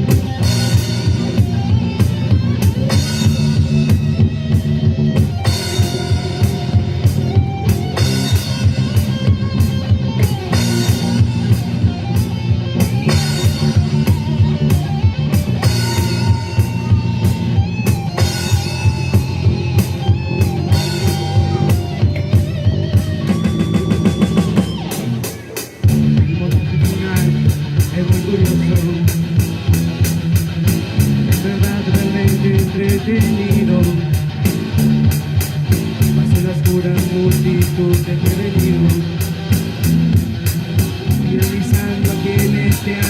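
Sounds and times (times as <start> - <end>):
bass guitar: 0.0 - 43.0
drum kit beat: 0.0 - 43.0
electric guitar chords: 0.0 - 43.0.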